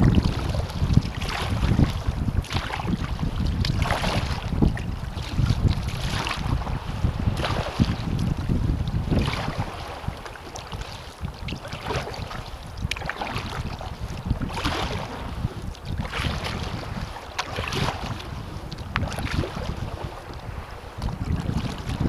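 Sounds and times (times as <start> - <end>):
paddle strokes splashing water: 0.0 - 22.0
wind buffeting microphone: 0.0 - 22.0.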